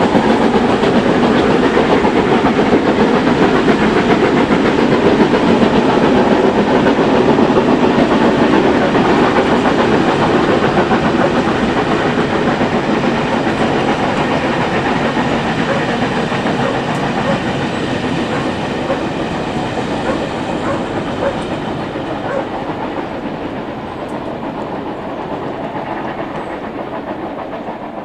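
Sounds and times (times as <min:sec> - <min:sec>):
train coaches rolling past: 0:00.0 - 0:28.0.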